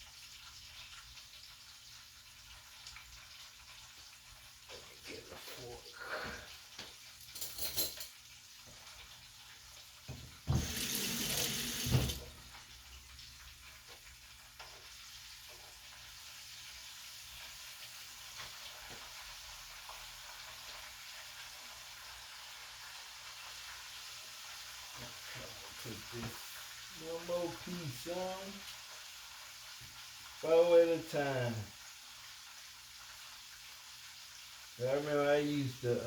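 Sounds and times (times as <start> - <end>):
chicken frying in grease: 0.0 - 36.0.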